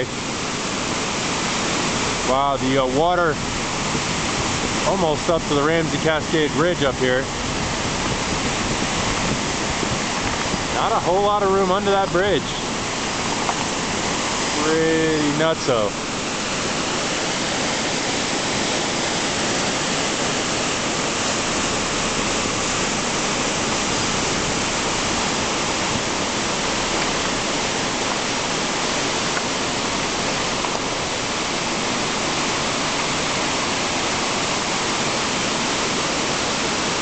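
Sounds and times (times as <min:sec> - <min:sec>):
river rapids roaring: 0:00.0 - 0:37.0.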